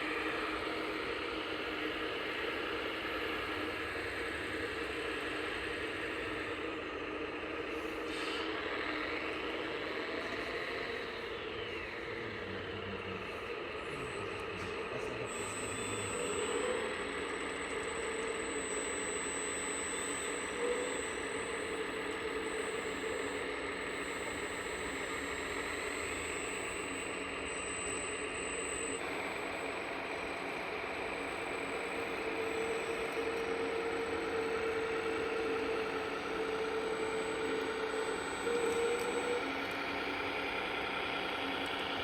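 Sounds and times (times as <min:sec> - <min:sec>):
electric motor whine: 0:00.0 - 0:42.0
engine-like drone: 0:00.0 - 0:42.0.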